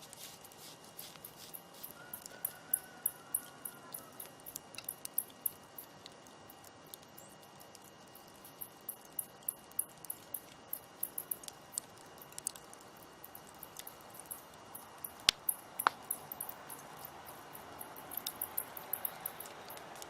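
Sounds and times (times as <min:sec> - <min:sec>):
low hiss of burning: 0:00.0 - 0:20.0
wood fire crackling: 0:00.0 - 0:20.0.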